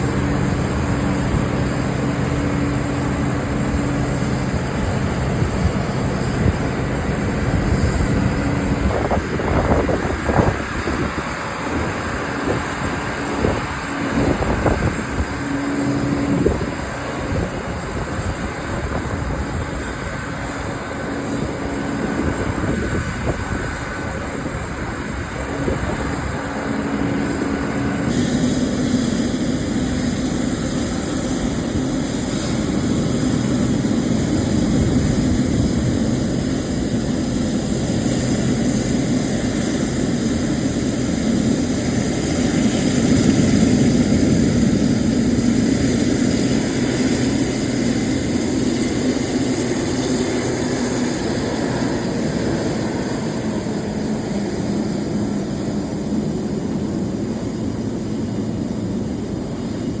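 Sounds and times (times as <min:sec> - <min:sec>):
jet engines on takeoff: 0:00.0 - 1:00.0.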